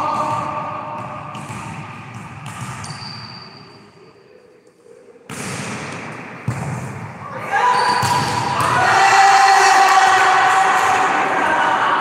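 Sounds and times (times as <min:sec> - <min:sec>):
echoing sports hall ambience: 0:00.0 - 0:12.0.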